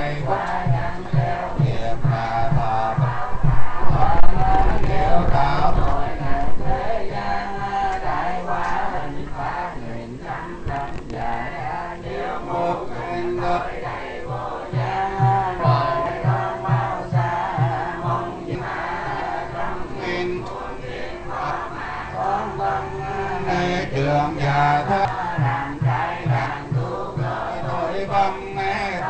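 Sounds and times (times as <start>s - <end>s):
monks chanting in unison: 0.0s - 29.0s
steady low beat: 0.0s - 29.0s.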